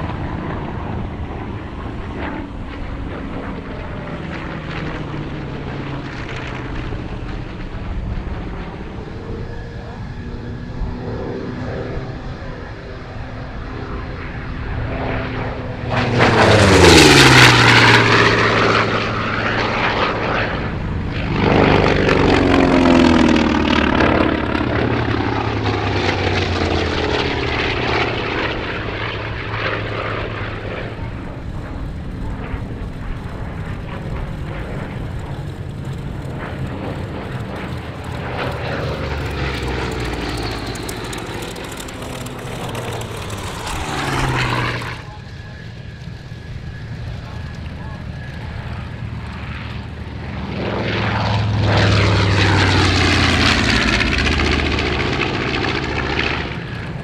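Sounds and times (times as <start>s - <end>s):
propeller aircraft passing low: 0.0s - 57.0s.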